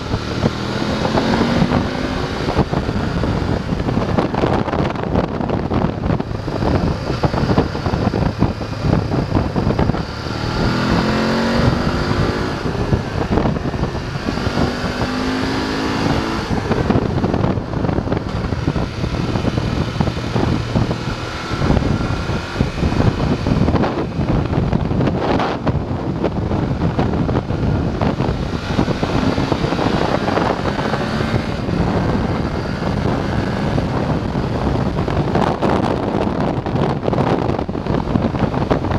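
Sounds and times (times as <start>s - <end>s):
motorcycle engine accelerating: 0.0s - 38.9s
wind buffeting microphone: 0.0s - 38.9s.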